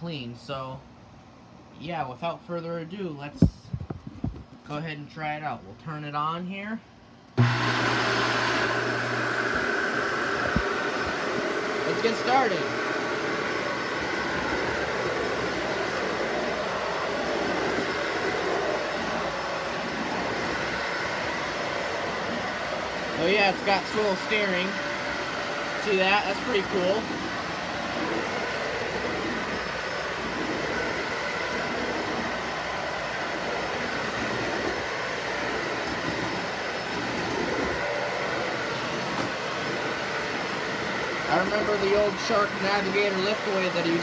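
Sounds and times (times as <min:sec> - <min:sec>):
vacuum cleaner running: 0:07.4 - 0:44.0.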